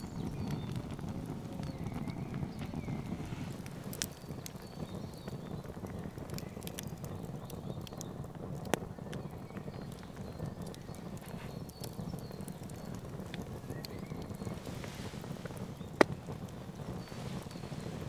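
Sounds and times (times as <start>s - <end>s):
sharp pops from fire: 0.0s - 18.0s
wood fire crackling: 0.0s - 18.0s.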